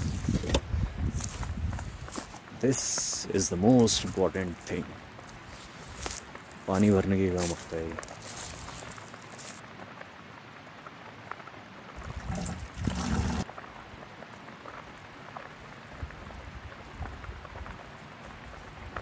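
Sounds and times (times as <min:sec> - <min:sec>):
water trickling over ground: 0:00.0 - 0:09.8, 0:11.3 - 0:19.0
rush of water: 0:01.4 - 0:19.0.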